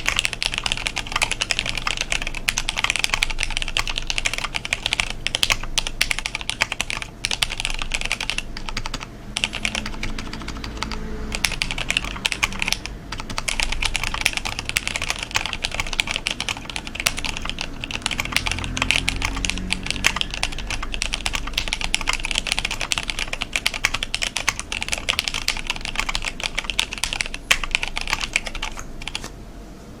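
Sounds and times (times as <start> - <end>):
mechanical keyboard typing: 0.0 - 29.3.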